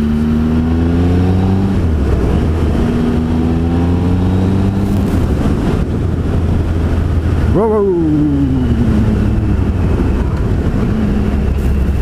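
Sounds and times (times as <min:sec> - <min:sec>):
motorcycle engine accelerating: 0:00.0 - 0:12.0
wind noise on microphone: 0:00.0 - 0:12.0.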